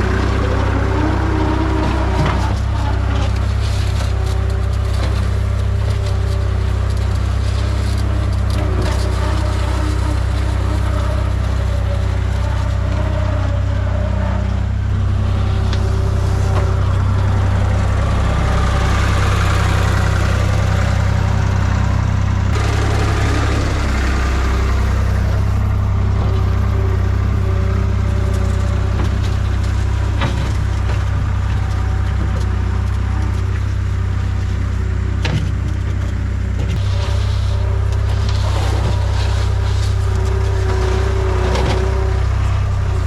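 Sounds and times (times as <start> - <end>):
cracks and scraping: 0.0 - 43.0
rough noisy layer: 0.0 - 43.0
skid steer engine running: 0.0 - 43.0.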